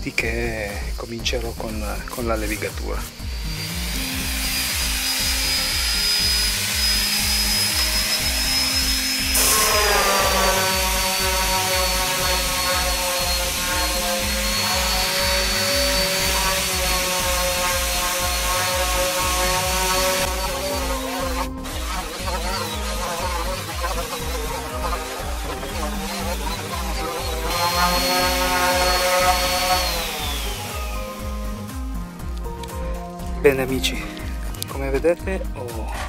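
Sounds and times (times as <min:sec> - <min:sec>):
background music with steady beat: 0:00.0 - 0:36.0
power sander whining on wood: 0:01.6 - 0:32.7.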